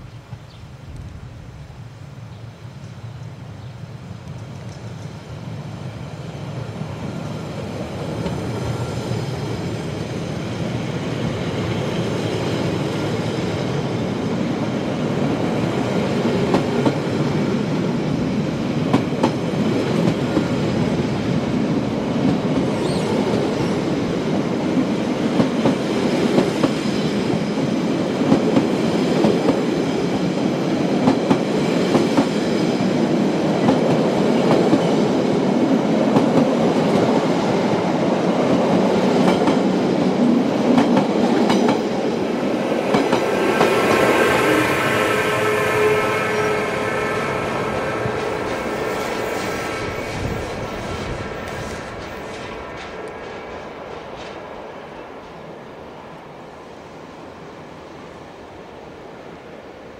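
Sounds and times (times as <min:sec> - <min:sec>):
steel wheels rumbling on rail: 0:04.0 - 0:56.9.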